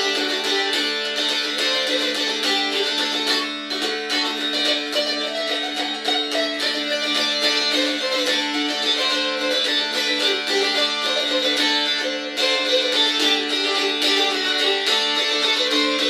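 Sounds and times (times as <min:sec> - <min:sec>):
dulcimer strummed: 0:00.0 - 0:16.0.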